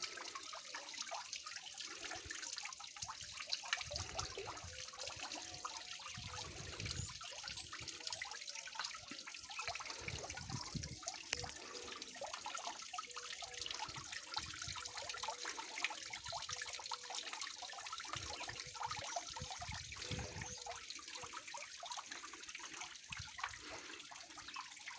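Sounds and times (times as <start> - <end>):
waterfall splashing and trickling: 0.0 - 24.9.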